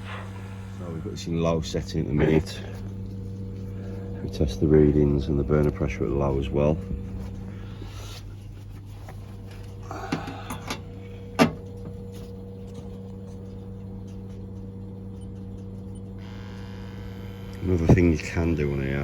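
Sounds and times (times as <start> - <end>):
gas boiler humming: 0.0 - 19.0.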